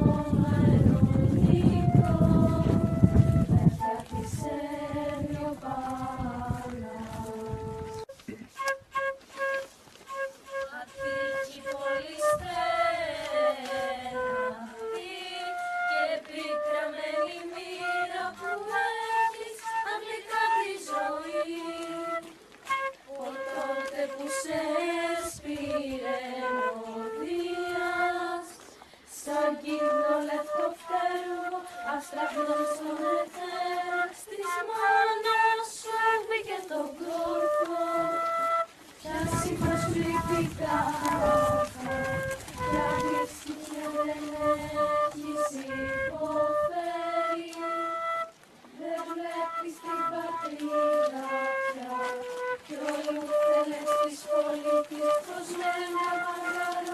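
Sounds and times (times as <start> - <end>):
young voices singing in unison: 0.0 - 8.0, 10.6 - 22.2, 23.0 - 56.9.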